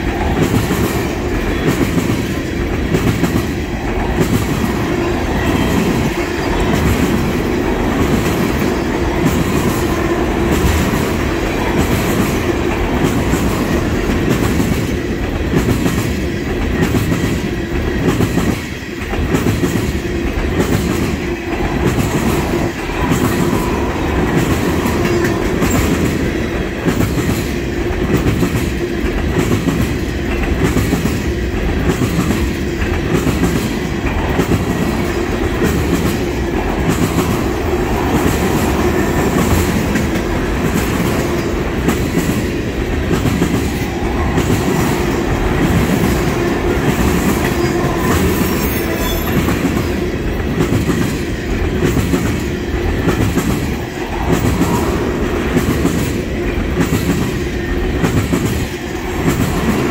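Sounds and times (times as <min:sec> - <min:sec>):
freight train wheels rumbling: 0:00.0 - 0:59.9
wheels clickety-clack on rail joints: 0:00.0 - 0:59.9.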